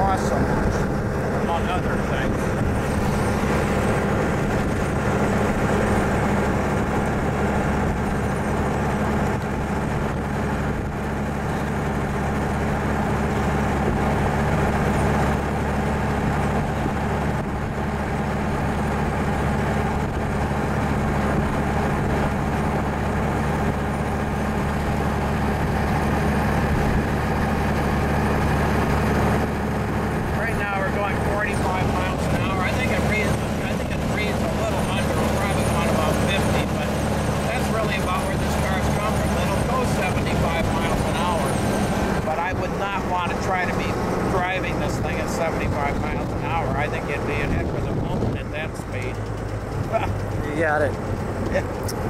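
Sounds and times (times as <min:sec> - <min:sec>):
car engine running: 0:00.0 - 0:52.0
wind and road noise: 0:00.0 - 0:52.0.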